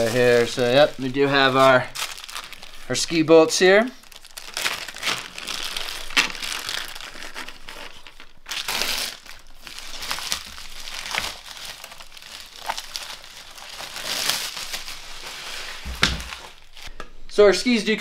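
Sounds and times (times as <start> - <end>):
plastic wrapping crinkling: 0.0 - 16.9.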